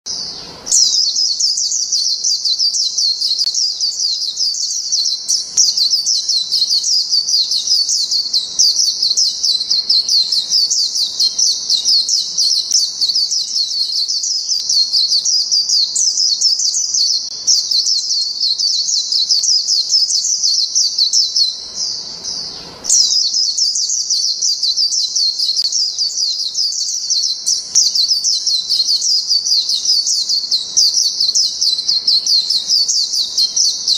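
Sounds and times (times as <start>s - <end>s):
bird twittering song: 0.1s - 33.9s.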